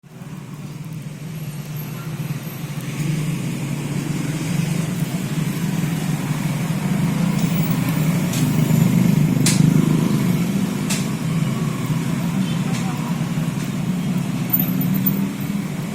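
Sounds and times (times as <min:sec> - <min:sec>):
engine running: 0:02.1 - 0:15.9.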